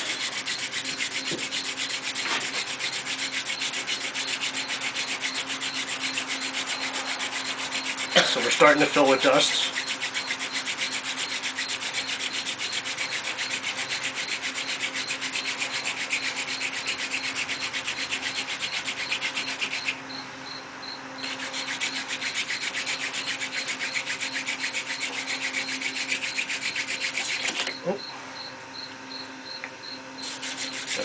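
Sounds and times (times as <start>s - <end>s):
hand drill spindle rubbing on wood: 0.0s - 20.1s, 21.2s - 27.8s, 30.2s - 31.0s.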